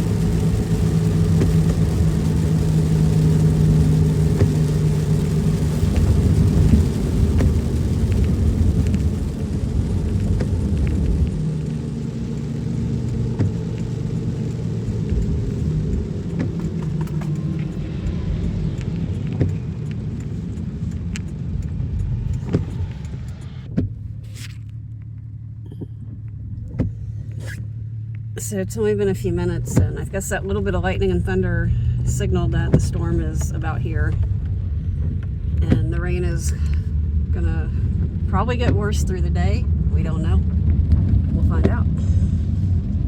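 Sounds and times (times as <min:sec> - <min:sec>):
car engine: 0:00.0 - 0:43.0
road noise: 0:00.0 - 0:43.0.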